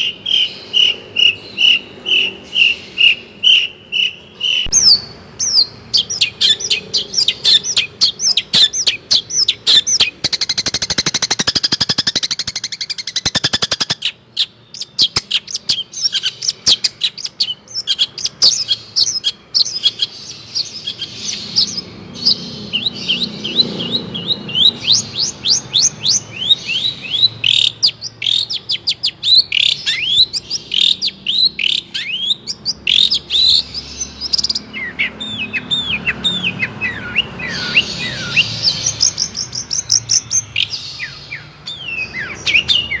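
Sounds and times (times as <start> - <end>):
bird chirping and whistling: 0.0 - 43.0.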